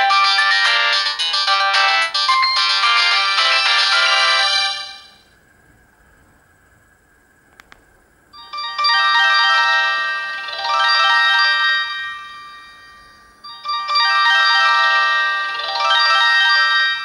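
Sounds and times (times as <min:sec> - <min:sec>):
mobile phone polyphonic ringtone: 0:00.0 - 0:05.2, 0:08.4 - 0:17.0.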